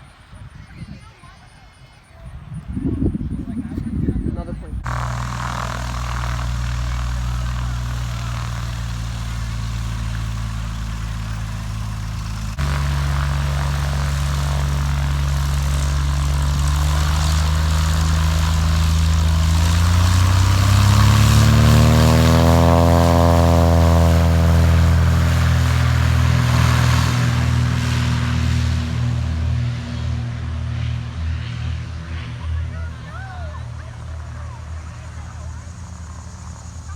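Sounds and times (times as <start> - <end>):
propeller airplane engine revving: 4.8 - 36.9.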